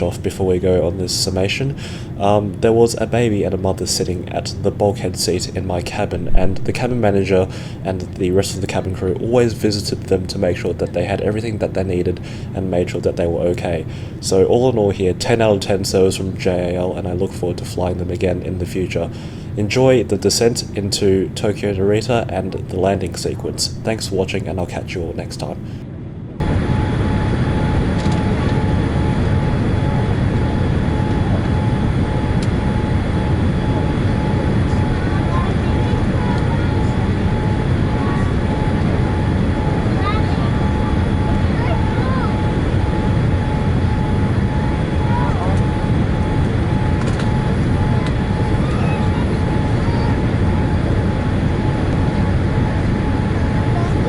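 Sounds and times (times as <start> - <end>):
airplane cabin airflow and engine: 0.0 - 54.0
faint steady whine: 0.0 - 54.0.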